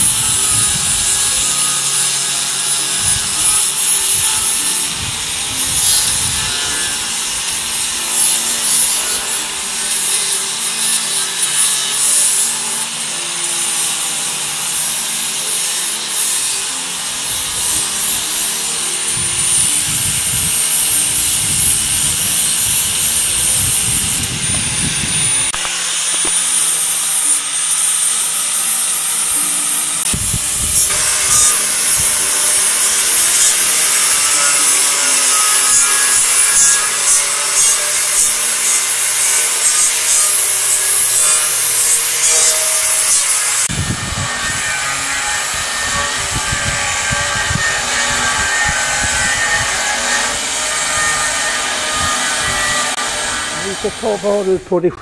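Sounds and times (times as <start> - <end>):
angle grinder sanding steel: 0.0 - 55.0.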